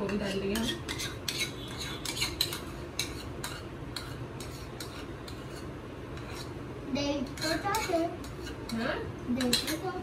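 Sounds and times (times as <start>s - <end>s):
metal spoon scraping a bowl: 0.0s - 10.0s.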